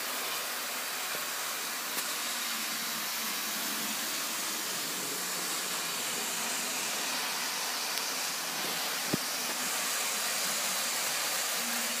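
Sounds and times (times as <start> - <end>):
model train whirring on track: 0.7 - 12.0.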